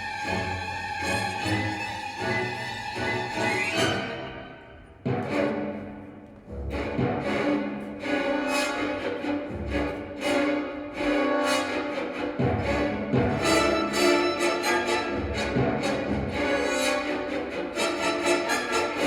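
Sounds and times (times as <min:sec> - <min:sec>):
orchestral strings over loudspeakers: 0:00.0 - 0:19.0.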